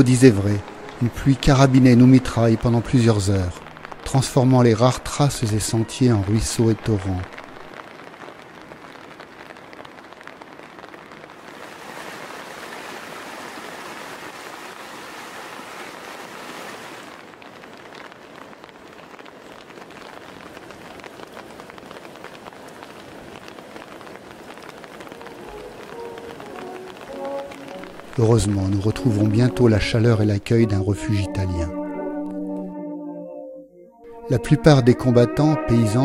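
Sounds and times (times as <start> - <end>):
heavy rain on vegetation: 0.0 - 31.6.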